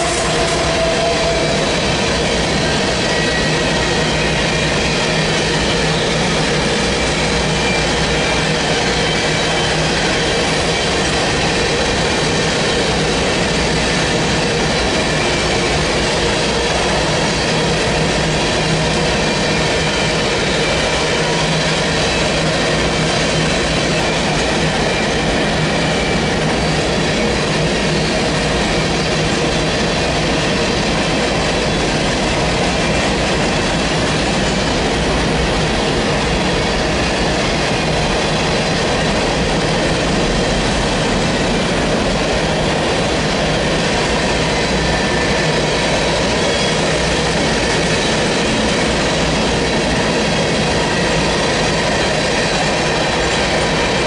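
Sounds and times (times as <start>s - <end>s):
steel wheels on rail: 0.0s - 54.0s.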